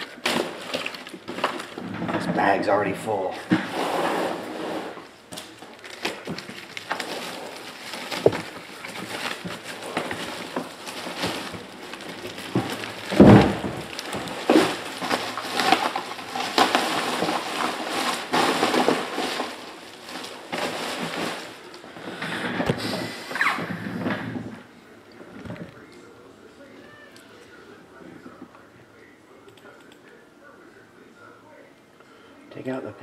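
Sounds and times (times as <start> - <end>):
plastic bag crinkling: 0.0 - 29.1.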